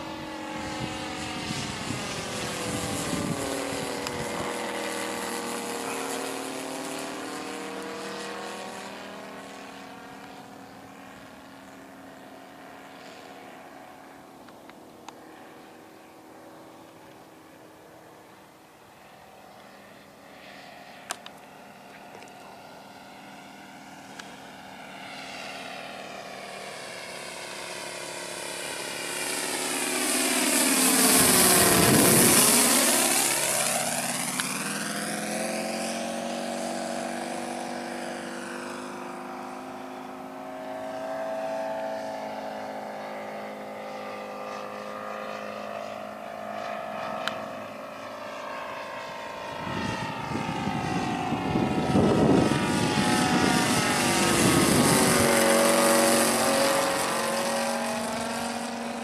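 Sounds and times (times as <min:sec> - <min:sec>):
model plane radial engine: 0:00.0 - 0:59.0.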